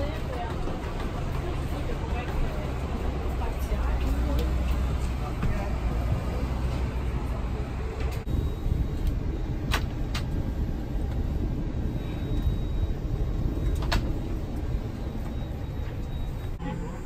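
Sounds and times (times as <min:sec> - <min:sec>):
aircraft cabin low rumble: 0:00.0 - 0:17.0.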